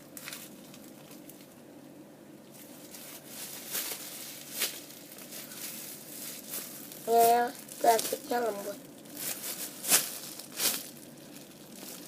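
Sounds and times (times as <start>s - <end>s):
plastic bag rustling: 0.0s - 1.6s, 2.5s - 12.0s.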